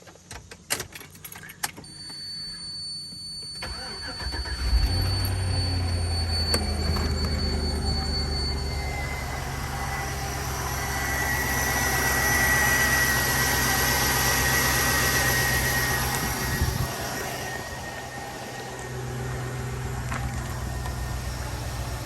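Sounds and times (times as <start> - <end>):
thin high whine: 1.9 - 22.0
car engine idling: 3.6 - 22.0.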